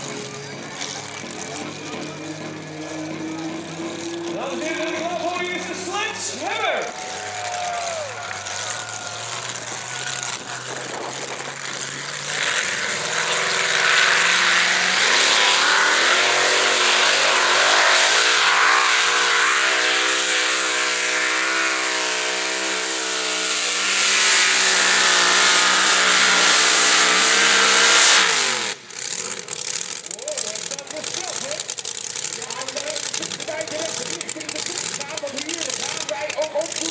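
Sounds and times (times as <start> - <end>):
engine running at high revs: 0.0 - 36.9.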